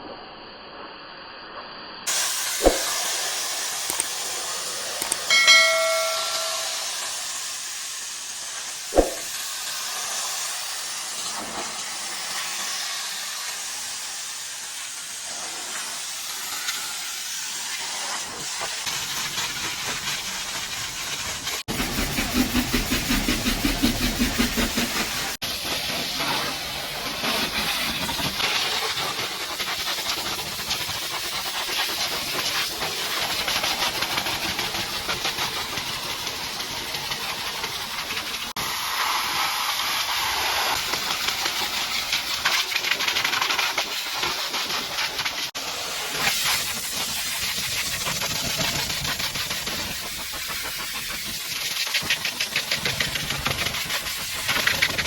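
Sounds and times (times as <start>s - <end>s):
pressure washer water spray: 2.1s - 55.0s.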